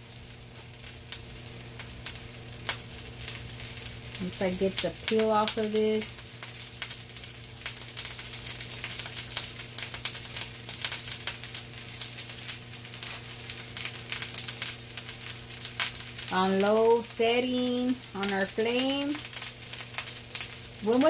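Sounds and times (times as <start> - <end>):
onions sizzling in a pan: 0.0 - 21.0.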